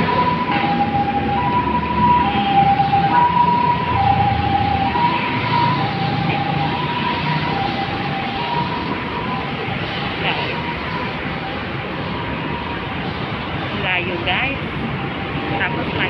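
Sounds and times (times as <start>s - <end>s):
heavy road traffic: 0.0s - 16.0s
two-tone emergency siren: 0.0s - 16.0s.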